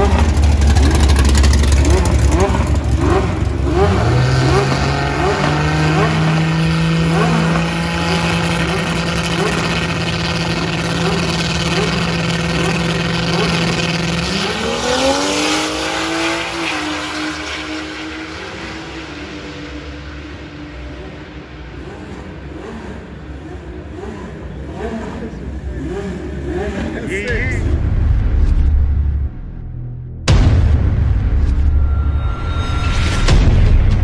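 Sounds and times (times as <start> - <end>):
truck engine accelerating: 0.0 - 34.0.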